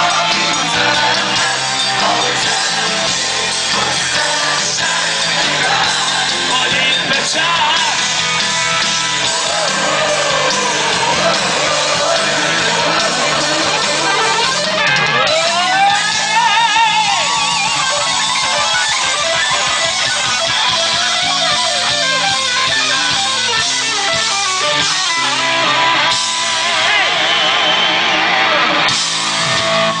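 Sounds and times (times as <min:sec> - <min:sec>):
electric guitar bent notes: 0:00.0 - 0:30.0
rock band playing live: 0:00.0 - 0:30.0.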